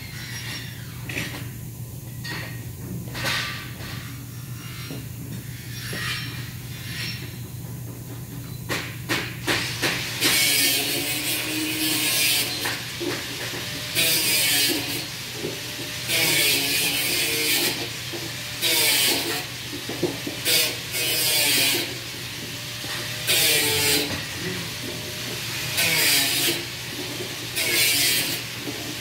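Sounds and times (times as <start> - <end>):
low hum of workshop machinery: 0.0 - 29.0.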